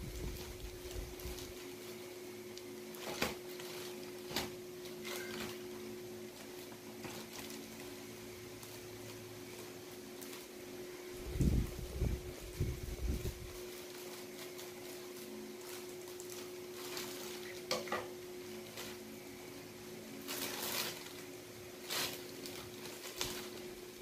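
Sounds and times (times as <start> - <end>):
plastic bag crinkling: 0.0 - 24.0
steady low hum: 0.0 - 24.0.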